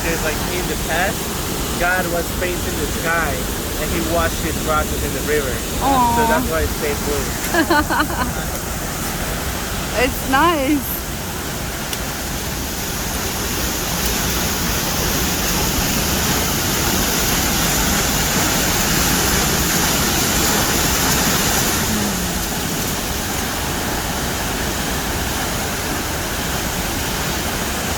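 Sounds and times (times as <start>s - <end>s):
rushing river or waterfall: 0.0s - 27.9s.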